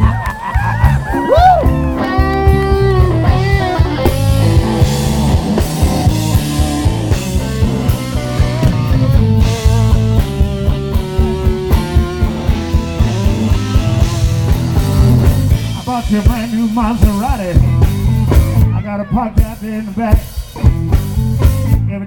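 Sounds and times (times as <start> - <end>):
drum kit beat: 0.0 - 22.0
electric guitar lead lines: 0.0 - 22.0.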